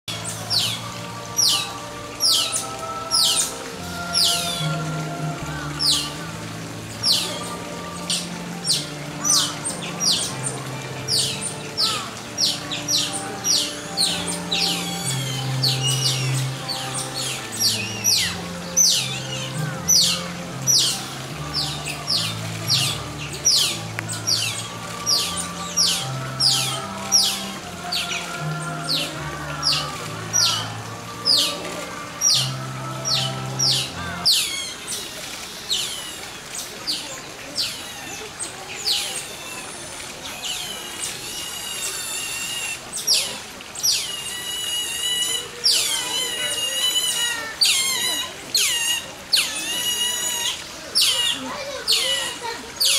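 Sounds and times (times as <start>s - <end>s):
otters chirping: 0.0s - 37.0s, 37.6s - 52.9s.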